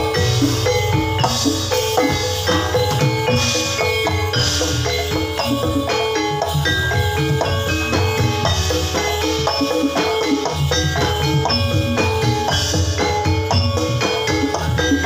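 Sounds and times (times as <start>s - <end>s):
drumming: 0.0s - 15.0s
metallophones ringing notes: 0.0s - 15.0s.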